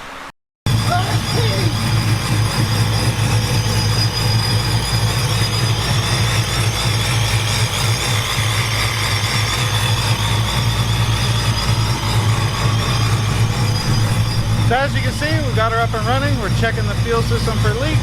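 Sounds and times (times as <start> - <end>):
engine idling: 0.7 - 18.0.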